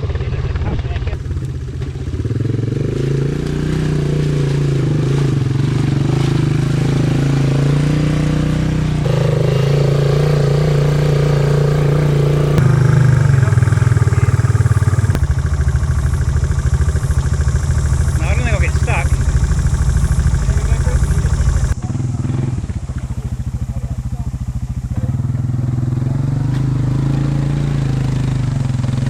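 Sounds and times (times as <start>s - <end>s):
quad bike engine running: 0.0s - 29.0s.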